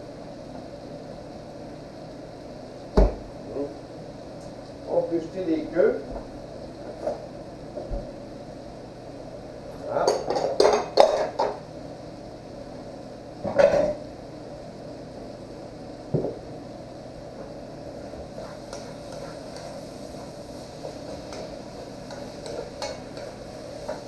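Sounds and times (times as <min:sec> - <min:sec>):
steady low hiss: 0:00.0 - 0:24.0.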